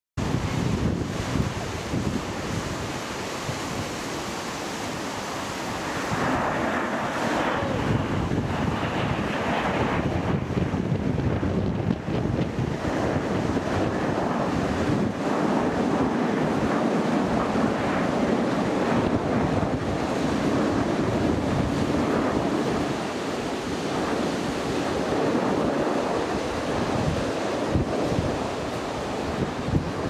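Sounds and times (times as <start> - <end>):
distant jet roar: 0.2 - 30.0
wind buffeting microphone: 0.2 - 30.0.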